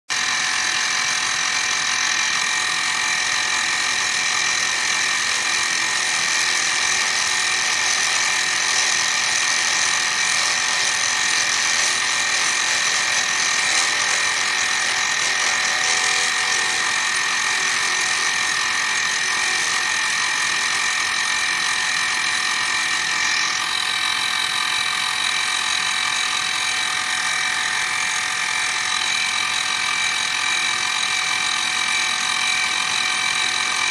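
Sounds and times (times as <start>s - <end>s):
milling machine spindle whine: 0.1s - 33.9s.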